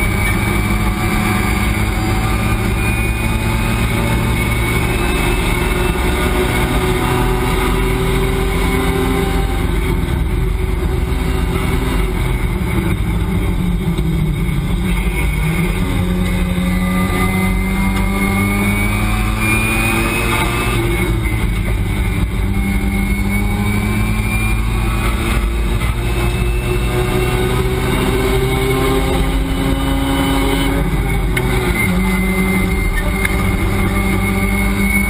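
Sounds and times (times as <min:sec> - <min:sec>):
race car engine at high revs: 0:00.0 - 0:35.0
wind and road noise: 0:00.0 - 0:35.0.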